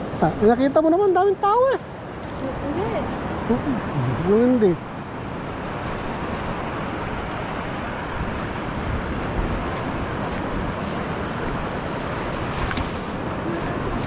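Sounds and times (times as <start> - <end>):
ocean surf washing on shore: 0.0 - 14.0
wind buffeting microphone: 2.1 - 14.0.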